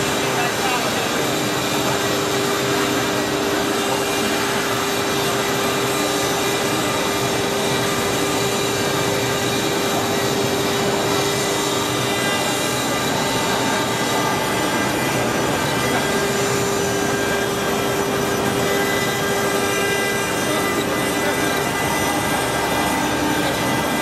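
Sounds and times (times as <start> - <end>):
router spindle motor whine: 0.0 - 24.0.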